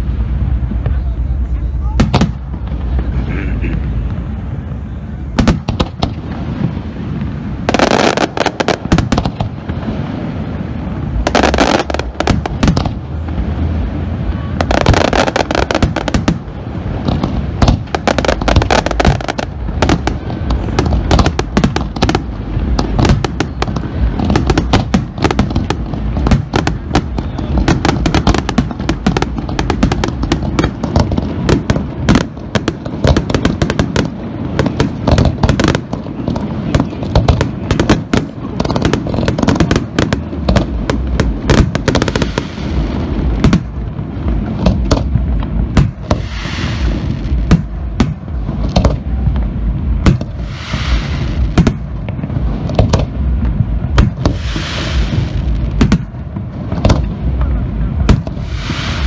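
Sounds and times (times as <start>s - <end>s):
fireworks booms and bangs: 0.0s - 59.0s.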